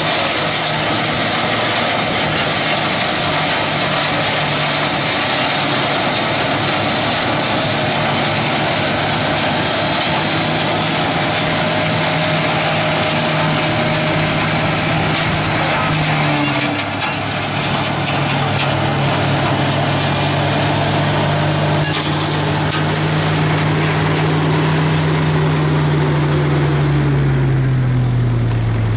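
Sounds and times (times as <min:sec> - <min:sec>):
flail mower chopping weeds: 0:00.0 - 0:28.9
loader engine running under load: 0:00.0 - 0:28.9.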